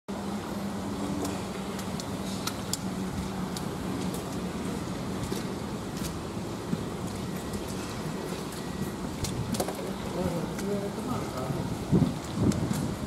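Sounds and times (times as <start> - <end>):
constant rumbling: 0.1 - 13.0
low mechanical hum: 0.1 - 13.0.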